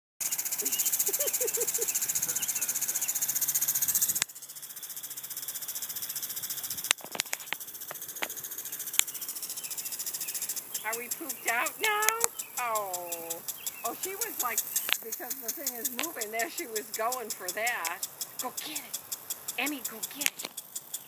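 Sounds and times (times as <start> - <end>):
sharp clicks: 0.2 - 4.3, 6.1 - 21.0
lawn sprinkler spraying water: 0.2 - 21.0.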